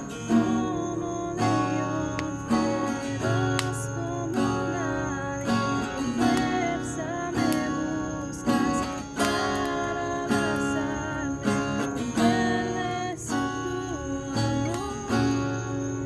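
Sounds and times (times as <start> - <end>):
acoustic guitar strumming chords: 0.0 - 16.0
person singing: 0.0 - 16.0.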